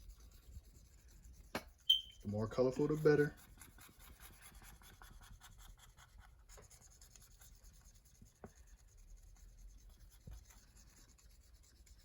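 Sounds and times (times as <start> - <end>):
colouring tool scratching on paper: 0.0 - 12.0.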